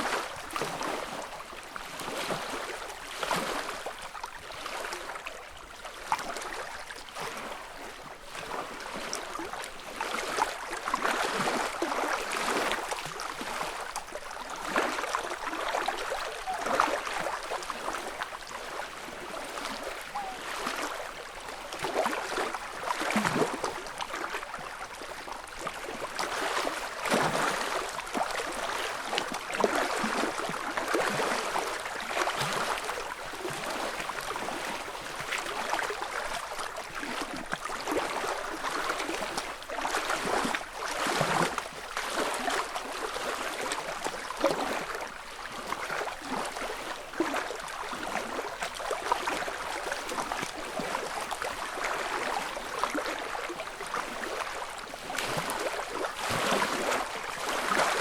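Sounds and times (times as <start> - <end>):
lake waves lapping on shore: 0.0 - 58.0
water splashes and gurgles: 0.0 - 58.0.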